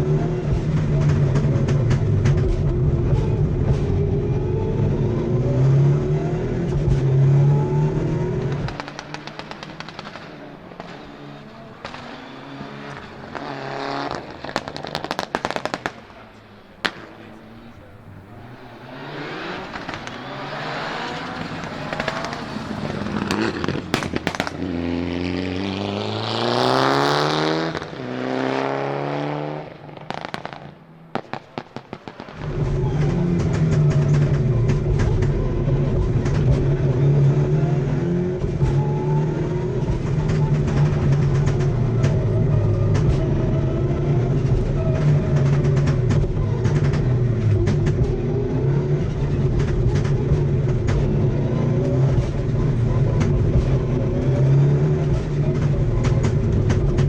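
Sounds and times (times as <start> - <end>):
exhaust pops and bangs: 0.0 - 5.7, 6.4 - 28.0, 29.8 - 57.0
rally car engine revving: 0.0 - 57.0.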